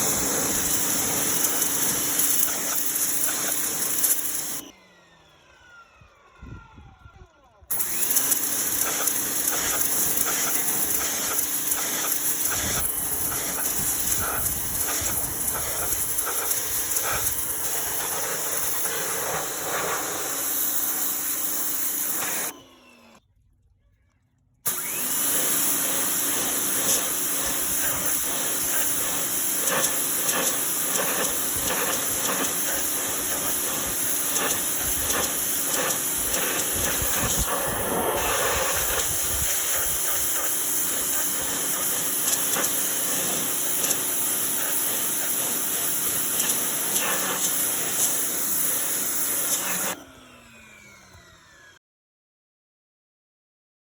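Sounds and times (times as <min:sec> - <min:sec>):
pressure washer water jet hissing: 0:00.0 - 0:04.7, 0:07.7 - 0:22.8, 0:24.7 - 0:50.0
motor hum: 0:00.0 - 0:51.8.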